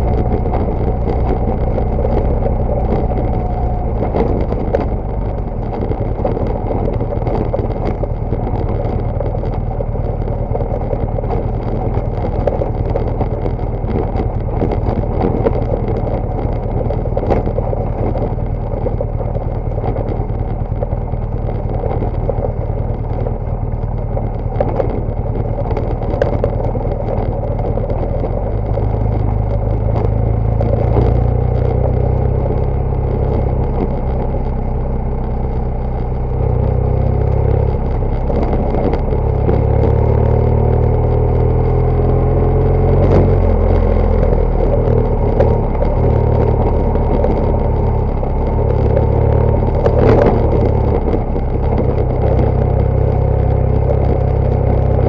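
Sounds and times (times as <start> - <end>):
motorcycle engine droning: 0.0 - 55.0
sharp clicks and knocks: 0.0 - 55.0.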